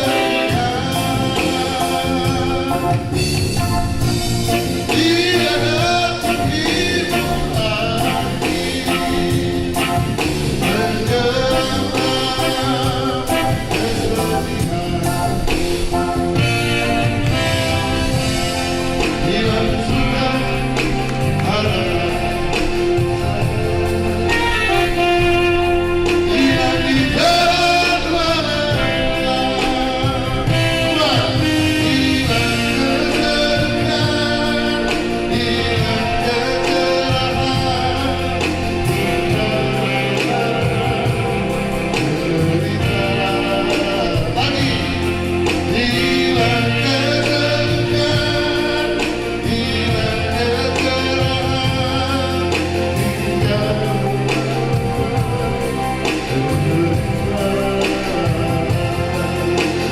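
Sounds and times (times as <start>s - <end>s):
instrumental accompaniment: 0.0s - 59.9s
person singing a melody: 0.0s - 59.9s
steady bass line: 0.0s - 59.9s.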